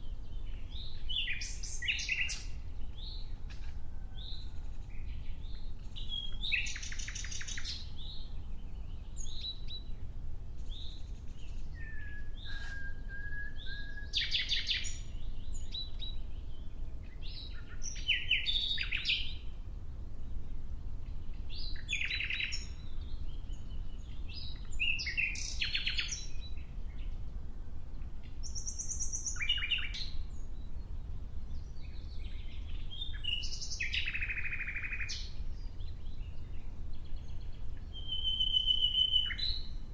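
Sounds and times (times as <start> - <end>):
nightingale singing: 0.0 - 3.4, 4.0 - 10.0, 10.6 - 19.6, 21.1 - 27.2, 28.0 - 39.9.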